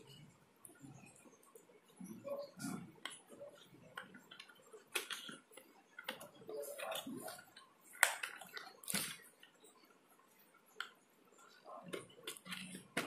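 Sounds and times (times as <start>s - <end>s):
plastic cups clicking and tapping: 0.0s - 13.0s.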